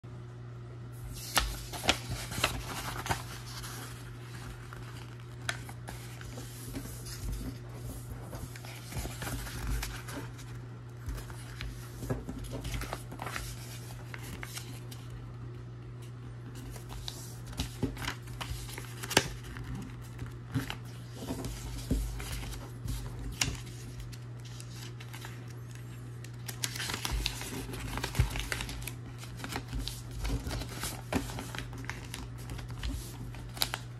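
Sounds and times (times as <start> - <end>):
paper being folded and creased: 1.0 - 15.2, 16.5 - 33.9.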